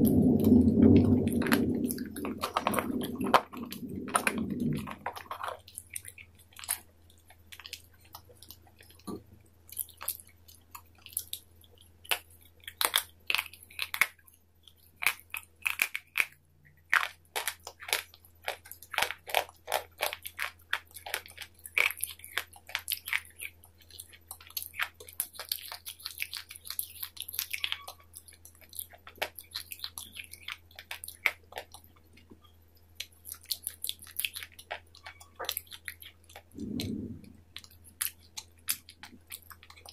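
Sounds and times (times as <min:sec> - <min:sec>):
crunchy biting and chewing: 0:00.0 - 0:32.3, 0:33.0 - 0:39.9.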